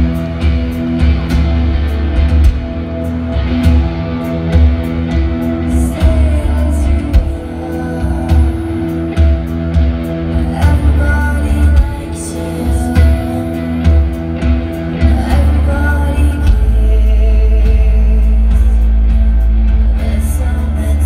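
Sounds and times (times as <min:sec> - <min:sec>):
bass guitar: 0:00.0 - 0:21.0
electric guitars: 0:00.0 - 0:21.0
steady drum beat: 0:00.0 - 0:21.0.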